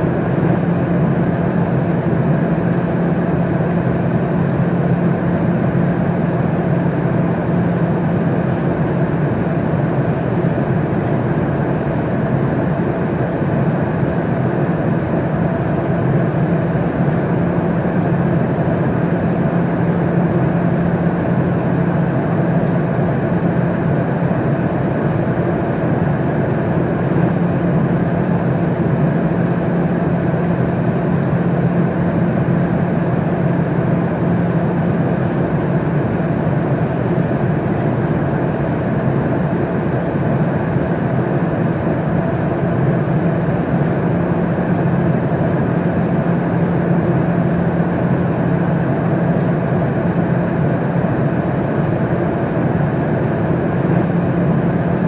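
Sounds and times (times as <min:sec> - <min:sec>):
airliner cabin engine rush: 0:00.0 - 0:55.0.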